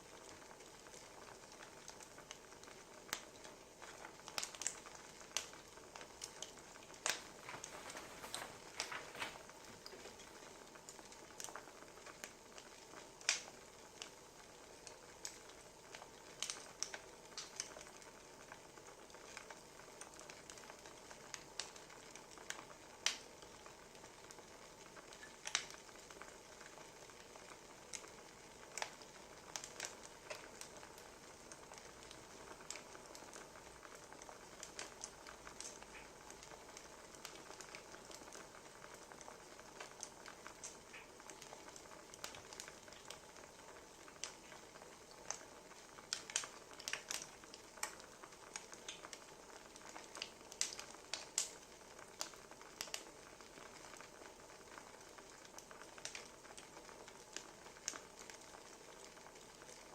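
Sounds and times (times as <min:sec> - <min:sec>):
firewood crackling: 0:00.0 - 0:59.9.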